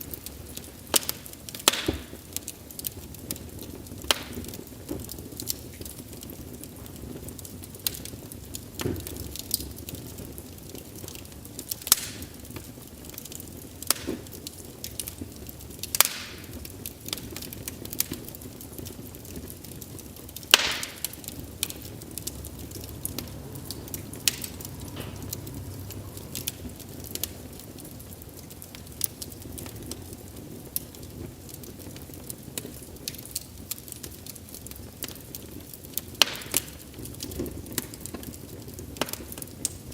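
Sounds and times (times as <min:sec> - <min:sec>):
fire crackles and pops: 0:00.0 - 0:39.9
wood fire rumbling: 0:00.0 - 0:39.9.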